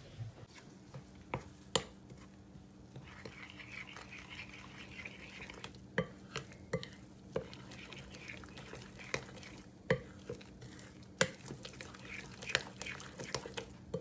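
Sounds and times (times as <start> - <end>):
utensil stirring food in a pan: 0.5 - 14.0.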